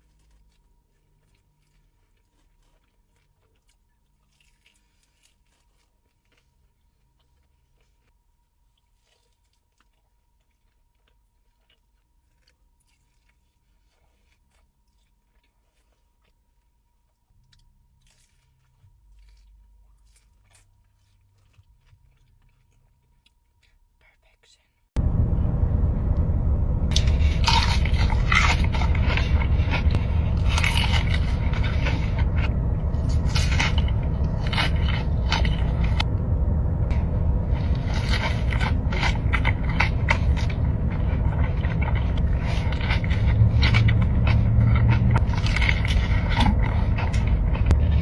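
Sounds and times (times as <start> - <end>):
chewing with crunches: 0.0 - 48.0.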